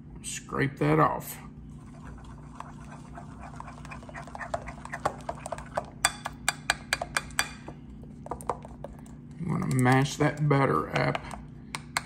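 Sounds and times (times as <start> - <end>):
spoon scraping wet glaze: 1.7 - 12.0.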